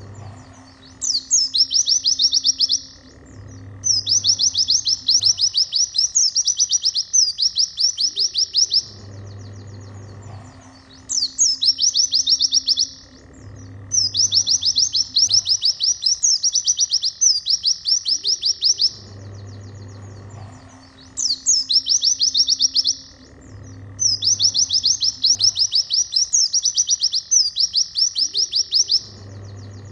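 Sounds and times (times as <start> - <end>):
bird chirping trills: 0.0 - 29.9.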